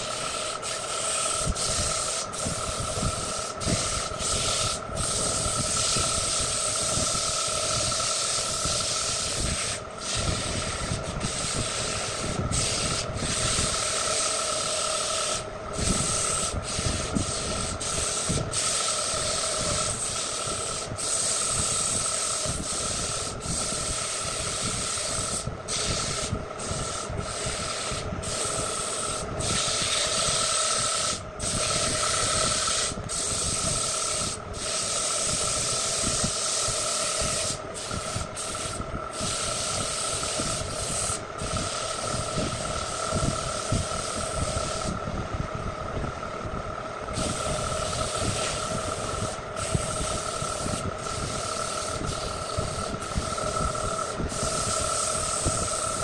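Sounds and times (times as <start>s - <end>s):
sandpaper hissing on spinning wood: 0.0s - 45.1s, 47.0s - 56.0s
lathe running: 0.0s - 56.0s.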